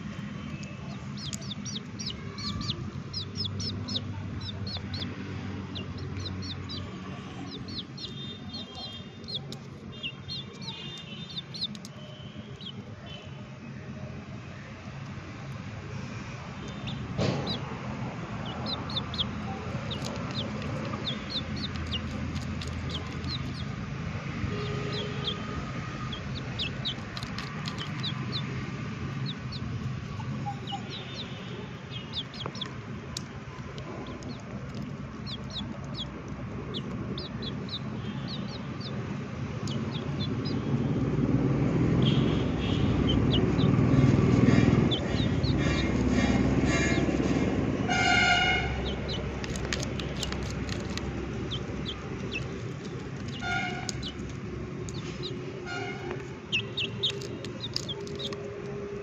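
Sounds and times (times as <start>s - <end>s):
chickens chirping: 0.0s - 12.9s, 16.4s - 23.8s, 24.5s - 41.3s, 41.9s - 58.8s.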